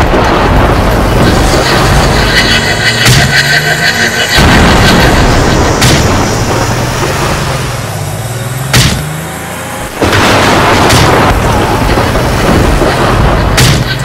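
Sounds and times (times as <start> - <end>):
sharp cartoon bang: 0.0 - 3.4, 4.3 - 7.8, 8.7 - 9.2, 10.0 - 14.0
loud noisy rushing: 0.0 - 14.0
low engine-like hum: 0.6 - 13.6.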